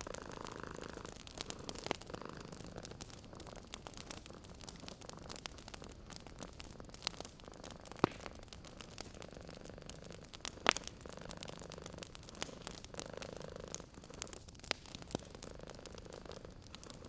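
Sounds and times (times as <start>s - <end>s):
cat purring: 0.0s - 17.0s
wood fire crackling: 0.0s - 17.0s.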